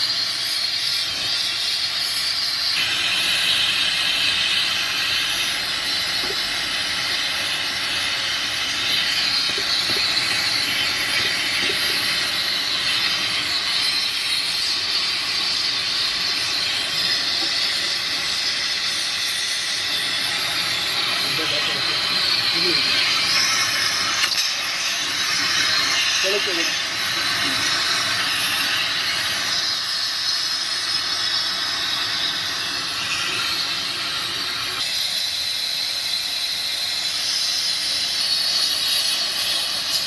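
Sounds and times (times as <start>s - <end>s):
welding hiss: 0.0s - 40.0s.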